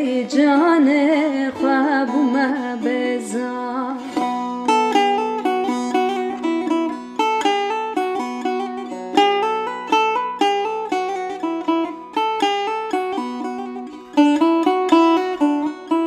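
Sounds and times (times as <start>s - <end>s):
plucked string instrument: 0.0s - 16.0s.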